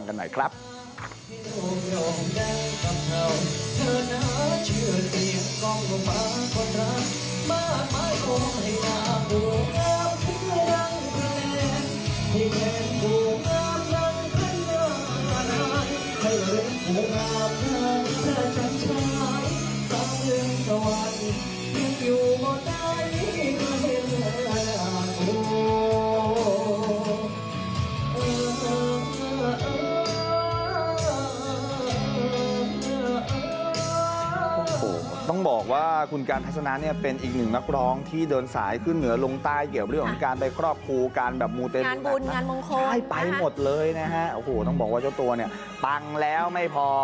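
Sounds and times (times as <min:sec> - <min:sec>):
instrumental backing music: 0:00.0 - 0:47.0
man singing into a microphone: 0:00.0 - 0:47.0.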